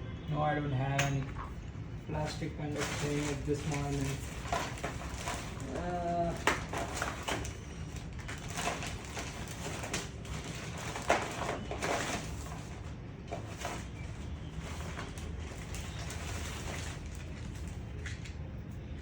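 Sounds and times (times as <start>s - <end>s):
steady low hum: 0.0s - 19.0s
small objects knocking and rustling: 1.2s - 18.5s.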